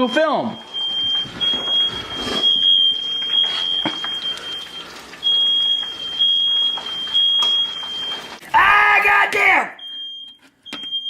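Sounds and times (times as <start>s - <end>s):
smoke alarm high-pitched tone: 0.0s - 8.4s, 9.7s - 11.0s.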